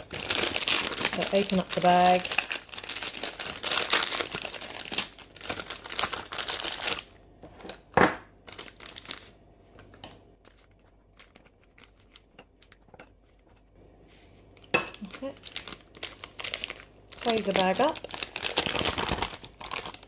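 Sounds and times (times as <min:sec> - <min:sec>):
plastic bag crinkling: 0:00.0 - 0:07.1, 0:08.4 - 0:12.8, 0:15.0 - 0:20.0.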